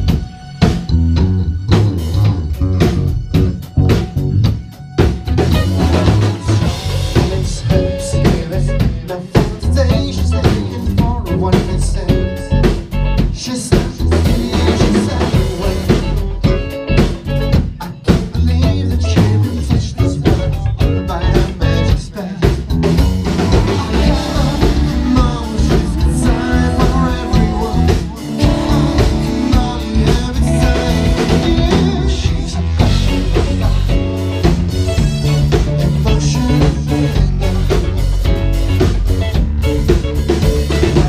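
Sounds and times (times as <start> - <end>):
drum kit beat: 0.0 - 41.0
electric guitars: 0.0 - 41.0.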